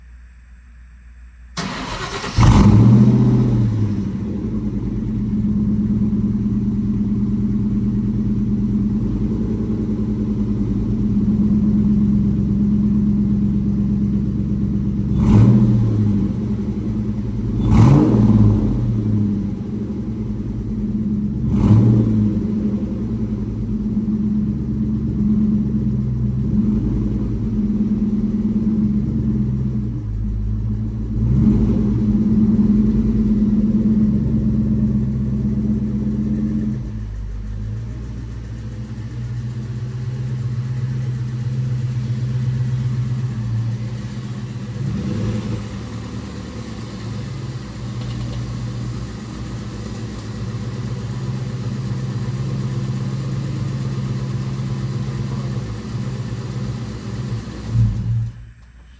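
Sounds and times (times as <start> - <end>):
car engine idling burble: 0.1 - 58.9.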